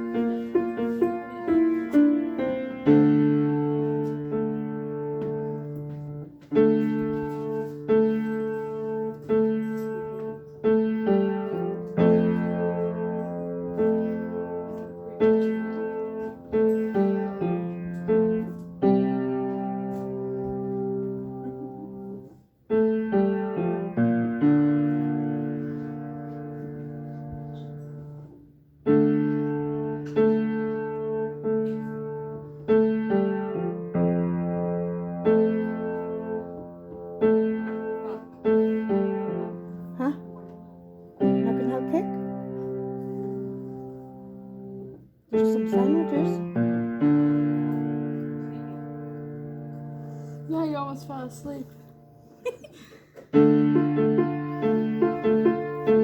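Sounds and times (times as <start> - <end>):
piano playing slow chords: 0.0 - 52.6, 53.2 - 56.0.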